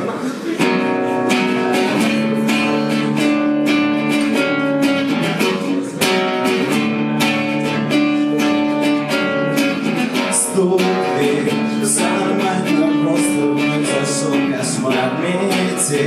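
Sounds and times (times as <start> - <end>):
guitar strumming chords: 0.6 - 16.0.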